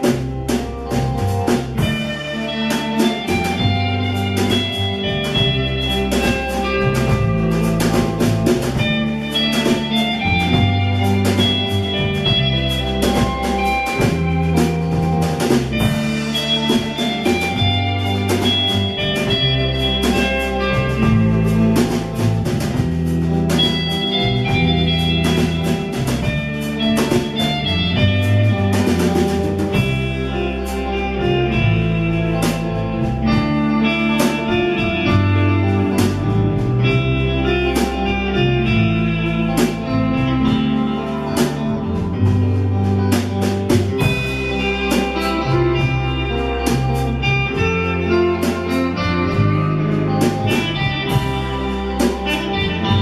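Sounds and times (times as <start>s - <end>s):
bass line: 0.0s - 53.0s
guitar: 0.0s - 53.0s
steady drum beat: 0.0s - 53.0s.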